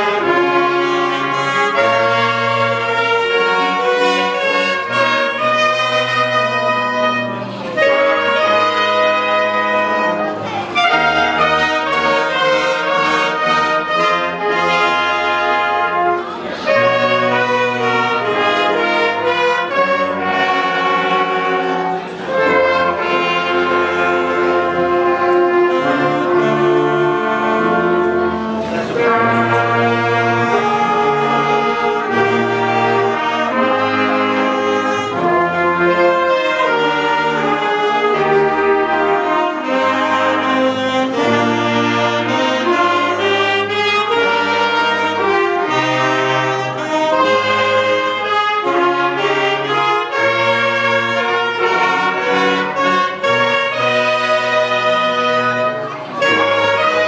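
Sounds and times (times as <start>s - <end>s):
wind band playing: 0.0s - 57.0s.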